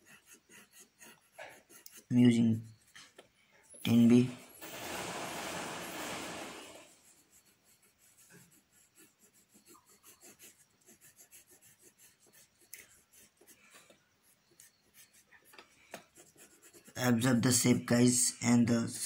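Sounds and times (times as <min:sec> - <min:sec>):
pencil shading on paper: 0:00.0 - 0:02.9, 0:03.9 - 0:17.7.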